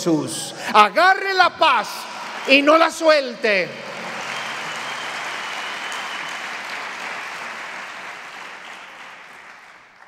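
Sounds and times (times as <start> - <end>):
congregation applauding: 1.7 - 10.0.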